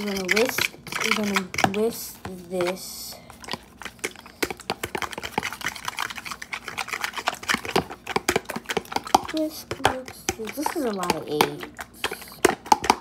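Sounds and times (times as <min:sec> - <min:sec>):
fork whisking eggs in plastic bowl: 0:00.0 - 0:13.0.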